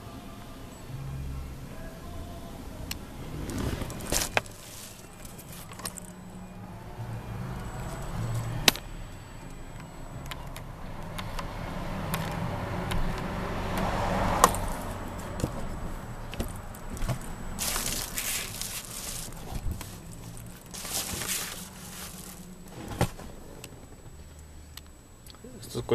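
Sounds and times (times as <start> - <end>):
steady low hum: 0.0 - 13.6, 14.5 - 25.9.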